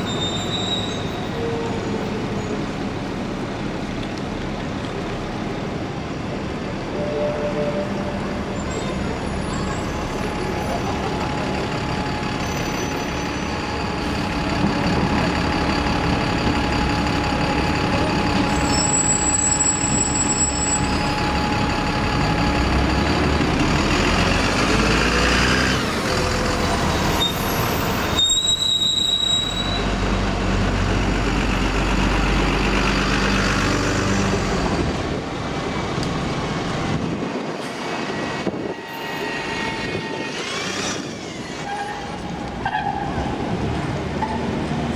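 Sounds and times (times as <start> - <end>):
brake squeals: 0.0 - 3.4, 6.8 - 34.8, 37.4 - 44.9
diesel buses rumbling: 0.0 - 44.9.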